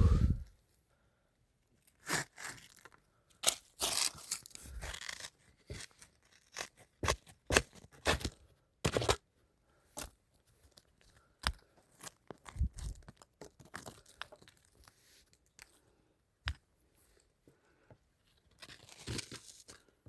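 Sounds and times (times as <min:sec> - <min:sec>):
digging in soil and roots: 0:01.8 - 0:09.3, 0:09.9 - 0:17.4, 0:18.3 - 0:20.0.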